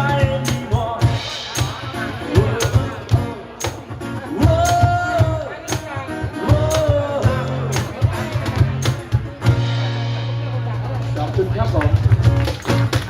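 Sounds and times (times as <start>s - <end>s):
rock band playing a ballad: 0.0s - 11.5s.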